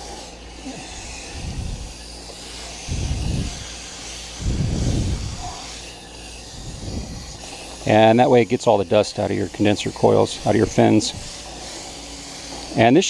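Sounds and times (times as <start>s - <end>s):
hose water spraying coils: 0.0s - 13.0s.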